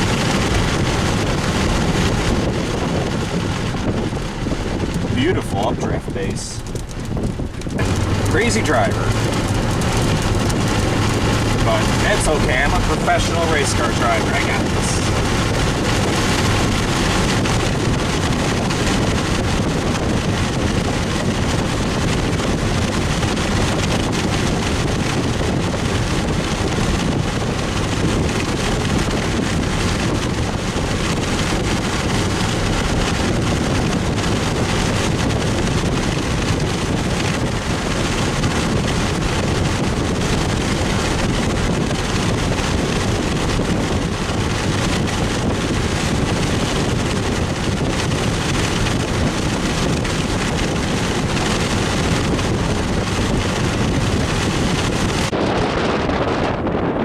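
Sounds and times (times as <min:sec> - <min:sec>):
car road noise: 0:00.0 - 0:57.0
rushing wind: 0:00.0 - 0:57.0.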